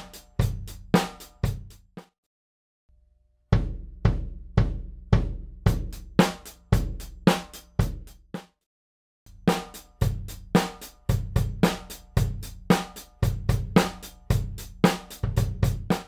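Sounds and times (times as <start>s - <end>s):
bass drum and snare beat: 0.0s - 2.1s, 3.5s - 8.5s, 9.3s - 16.0s.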